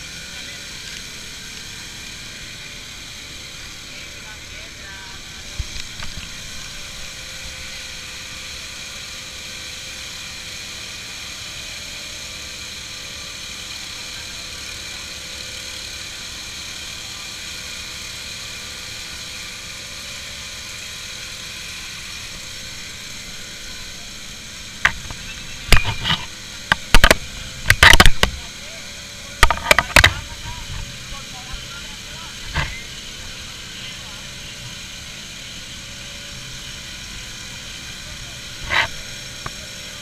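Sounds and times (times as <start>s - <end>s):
vehicle engine running steadily: 0.0s - 40.0s.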